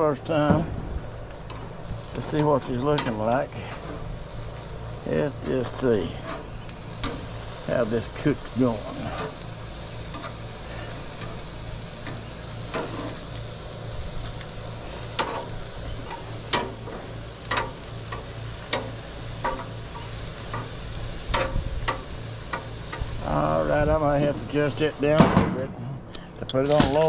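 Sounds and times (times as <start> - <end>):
meat sizzling on a grill: 0.0 - 25.4, 26.5 - 27.0.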